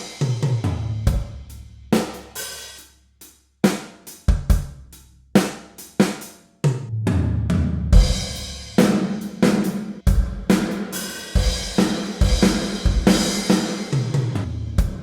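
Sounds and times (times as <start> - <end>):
programmed drum kit pattern: 0.0 - 6.4, 8.0 - 15.0.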